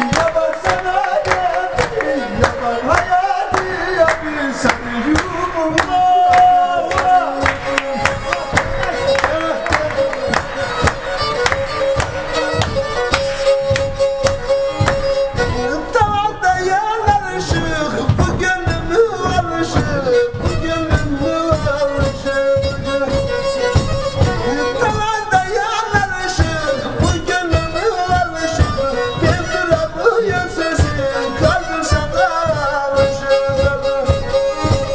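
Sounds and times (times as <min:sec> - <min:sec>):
bowed fiddle folk tune: 0:00.0 - 0:34.9.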